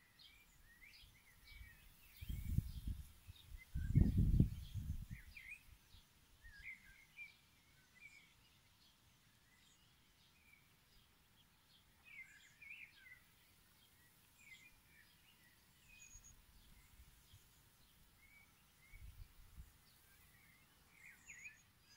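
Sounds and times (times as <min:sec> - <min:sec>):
faint bird chirps: 0:00.0 - 0:21.9.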